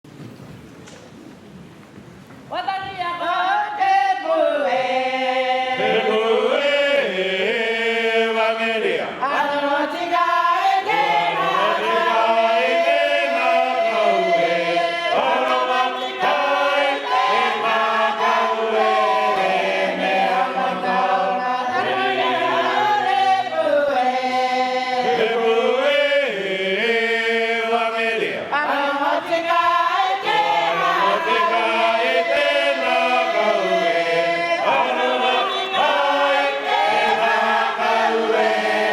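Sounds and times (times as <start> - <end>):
choir singing a hymn unaccompanied: 3.0 - 38.9.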